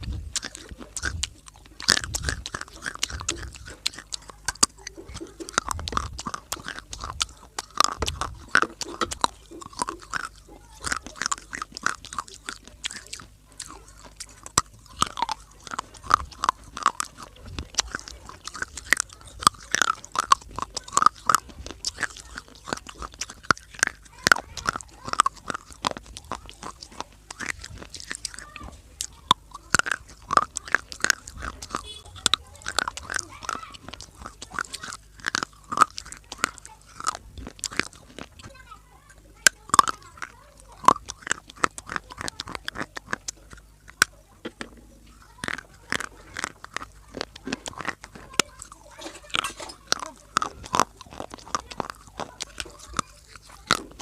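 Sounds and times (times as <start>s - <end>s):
person crunching dry clay: 0.0s - 38.7s, 39.4s - 54.0s
wet mouth sounds: 0.0s - 54.0s.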